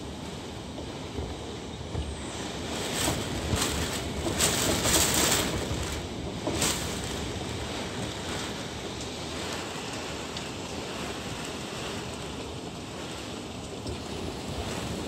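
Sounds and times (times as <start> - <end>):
wind and rain rushing: 0.0 - 15.0
wind gusts hitting microphone: 0.1 - 15.0.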